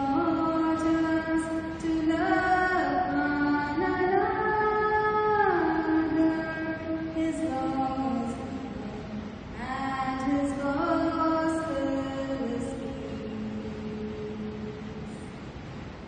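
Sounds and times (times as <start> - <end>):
slow wordless singing: 0.0 - 15.8.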